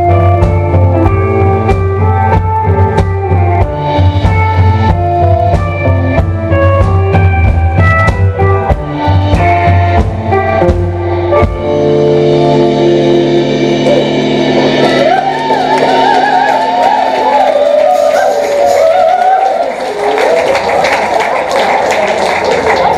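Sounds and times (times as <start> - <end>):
drum kit: 0.0 - 20.4
electric guitars: 0.0 - 20.6.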